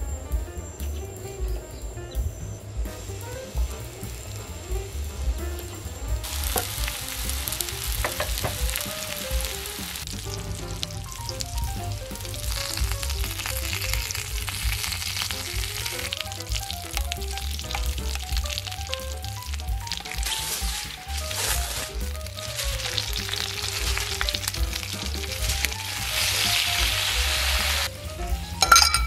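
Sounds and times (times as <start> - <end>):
background music with bass: 0.0 - 29.0
peppers sizzling on a griddle: 2.8 - 28.9.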